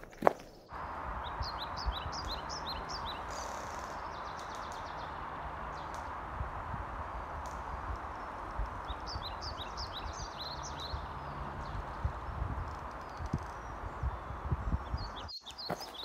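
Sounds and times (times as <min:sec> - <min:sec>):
songbird chirping: 0:00.0 - 0:16.0
wind through pine trees: 0:00.0 - 0:16.0.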